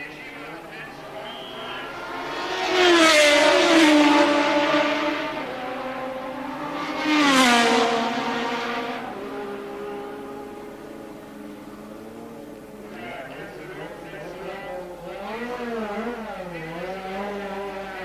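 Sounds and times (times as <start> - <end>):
racing cars passing by: 0.0 - 18.0.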